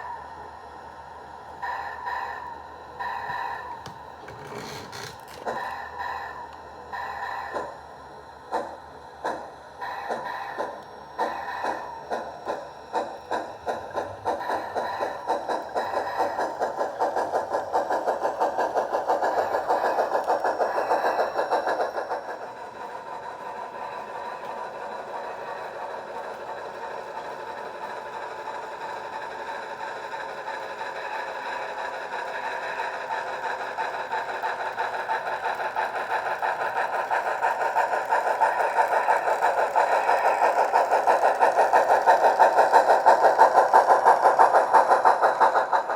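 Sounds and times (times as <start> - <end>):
steam locomotive chuffing: 0.0 - 45.9.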